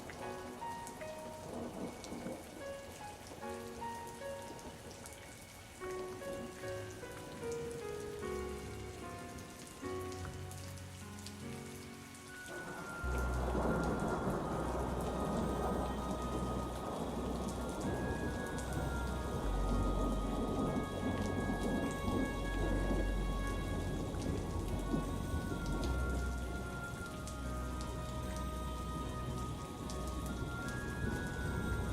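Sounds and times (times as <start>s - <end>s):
thunder rumble: 0.0s - 7.4s, 12.5s - 31.9s
rain falling: 0.0s - 31.9s
soft music: 0.0s - 31.9s.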